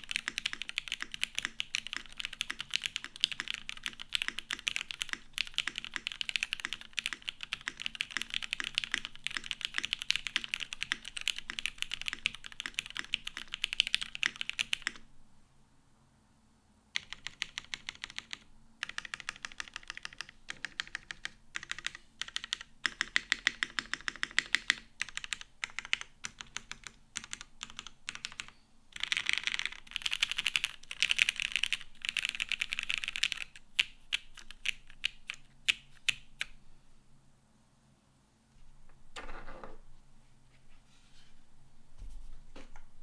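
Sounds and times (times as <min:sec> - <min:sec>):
mechanical keyboard typing: 0:00.0 - 0:15.0, 0:17.0 - 0:36.6.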